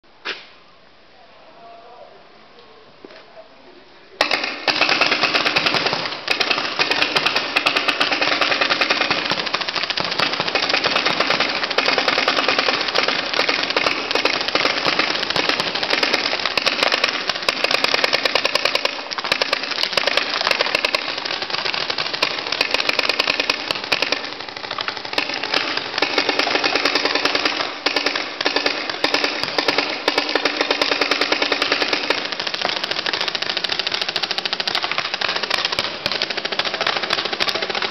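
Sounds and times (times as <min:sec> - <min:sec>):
paintball markers firing rapidly: 0:04.2 - 0:37.9.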